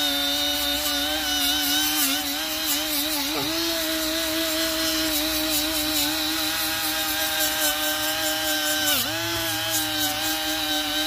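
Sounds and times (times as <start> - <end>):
angle grinder whining: 0.0 - 11.0.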